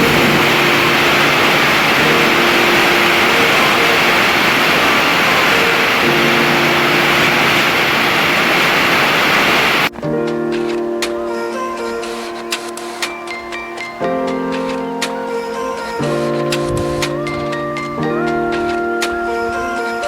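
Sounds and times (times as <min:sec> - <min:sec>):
background music: 0:00.0 - 0:08.6, 0:09.6 - 0:20.0
loud steady rushing noise: 0:00.0 - 0:20.0.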